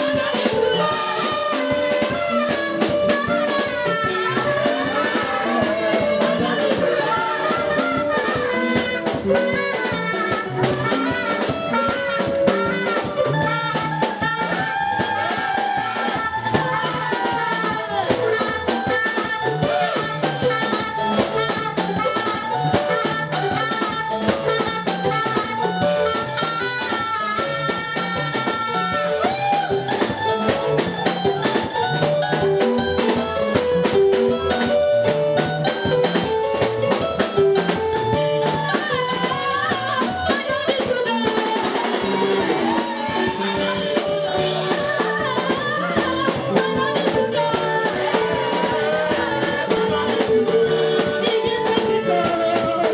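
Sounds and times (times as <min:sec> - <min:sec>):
drum kit beat: 0:00.0 - 0:52.9
worship band music: 0:00.0 - 0:52.9.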